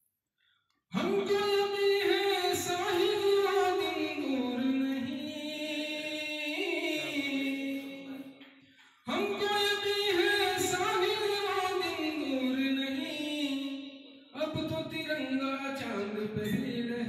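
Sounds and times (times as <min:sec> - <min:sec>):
man singing unaccompanied: 0:00.9 - 0:08.5, 0:09.1 - 0:17.0.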